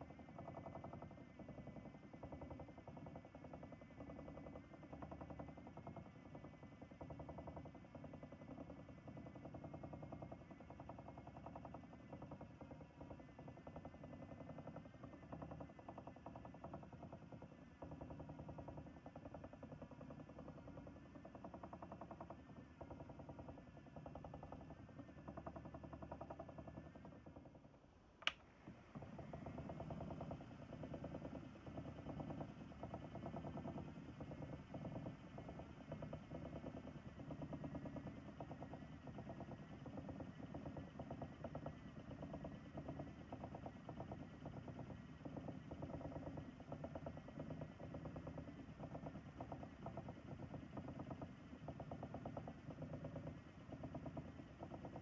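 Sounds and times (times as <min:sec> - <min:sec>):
spinning wheel motor whirring: 0:00.0 - 0:55.0.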